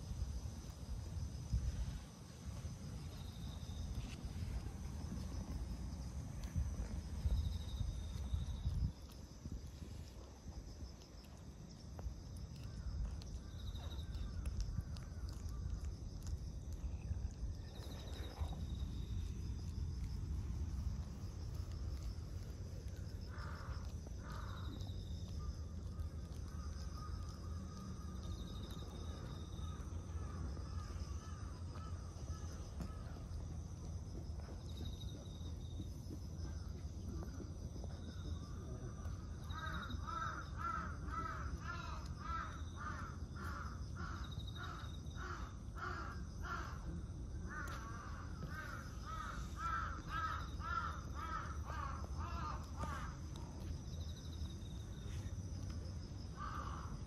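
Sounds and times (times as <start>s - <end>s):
low background rumble: 0.0s - 57.0s.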